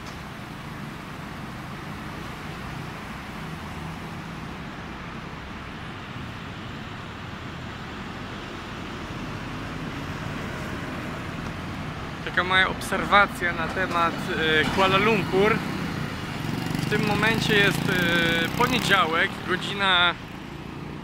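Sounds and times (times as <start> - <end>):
city road traffic hum: 0.0 - 21.0.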